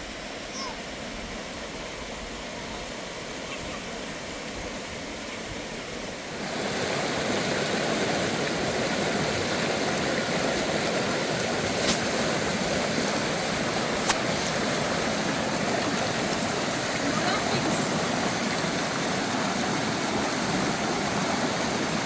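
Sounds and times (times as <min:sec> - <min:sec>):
rushing water: 0:00.0 - 0:22.0.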